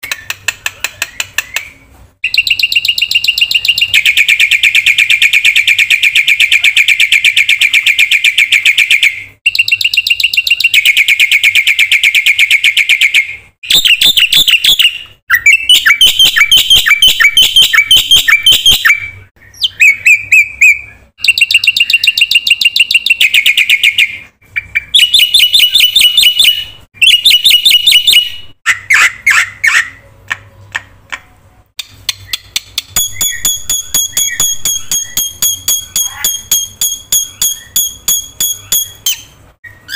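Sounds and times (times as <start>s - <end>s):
bird singing loudly: 1.4s - 30.0s, 32.1s - 39.9s.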